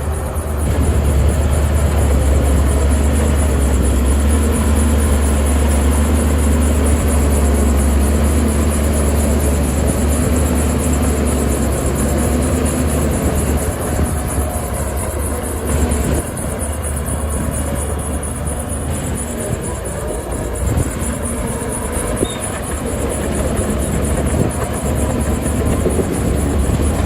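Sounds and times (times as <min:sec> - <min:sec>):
diesel engine low rumble: 0:00.0 - 0:27.0.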